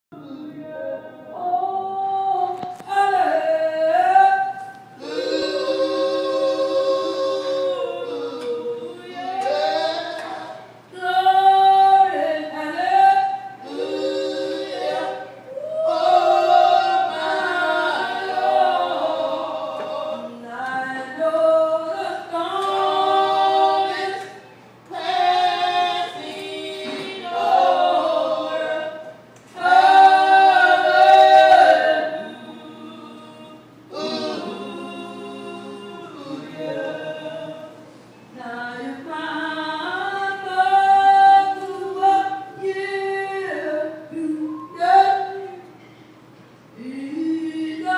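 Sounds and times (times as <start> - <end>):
women singing in harmony: 0.2 - 46.0, 46.7 - 47.9.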